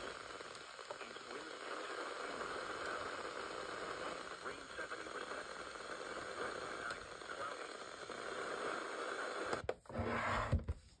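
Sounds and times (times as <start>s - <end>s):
faint broadcast voice: 0.0s - 9.6s
radio static hiss: 0.0s - 9.7s.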